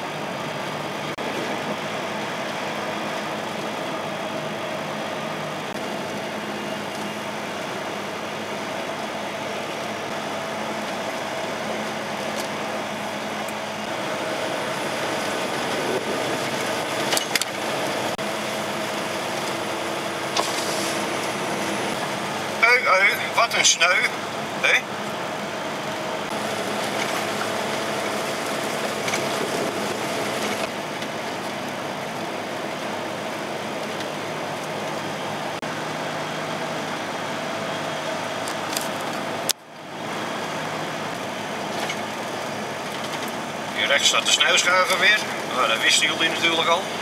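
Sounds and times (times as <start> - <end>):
road and tyre noise: 0.0 - 47.0
truck diesel engine running: 0.0 - 47.0.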